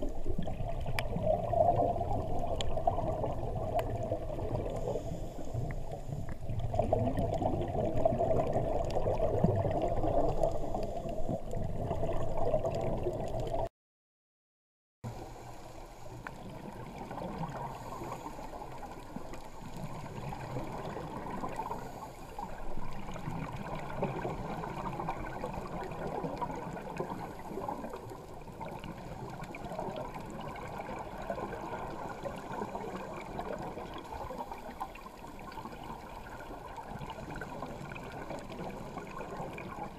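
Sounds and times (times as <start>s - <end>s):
underwater gurgling wash: 0.0s - 13.7s, 15.1s - 39.9s.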